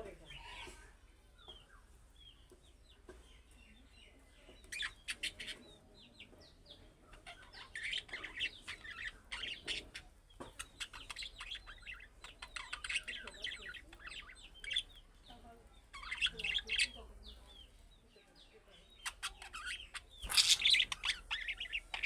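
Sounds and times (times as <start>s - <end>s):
budgerigars chirping: 1.4s - 22.0s.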